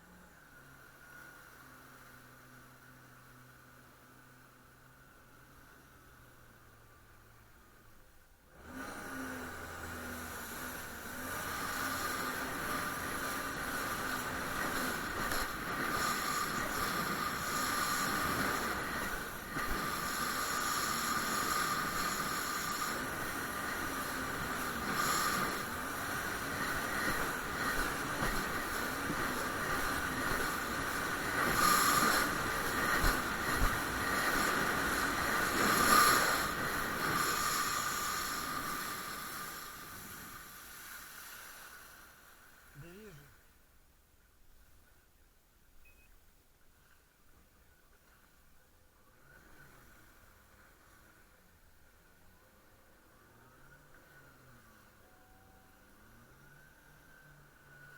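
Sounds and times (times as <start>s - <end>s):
jet ski engine drone: 0.0s - 43.5s, 47.6s - 57.9s.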